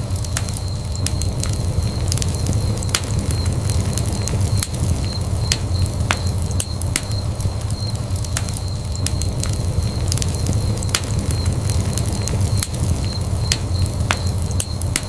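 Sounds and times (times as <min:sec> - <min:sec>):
fire crackles and pops: 0:00.0 - 0:15.0
fire low rumble: 0:00.0 - 0:15.0.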